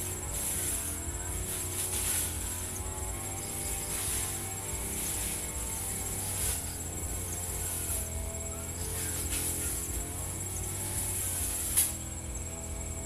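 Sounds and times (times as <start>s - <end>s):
brush cutter engine buzzing: 0.0s - 13.0s.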